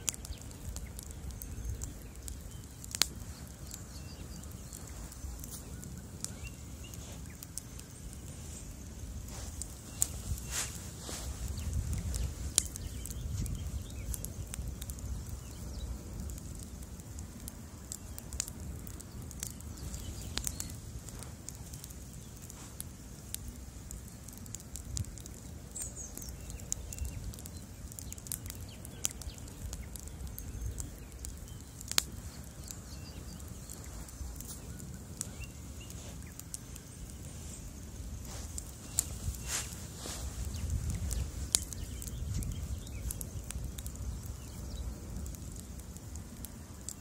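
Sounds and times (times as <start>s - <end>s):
low rumble of flames: 0.0s - 47.0s
wood crackling and popping: 0.0s - 47.0s.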